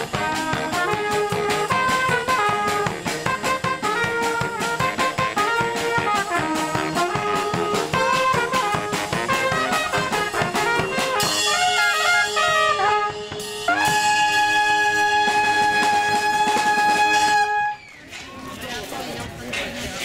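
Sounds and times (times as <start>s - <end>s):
bass drum and snare: 0.0s - 17.7s
trumpets and saxophones: 0.0s - 18.0s.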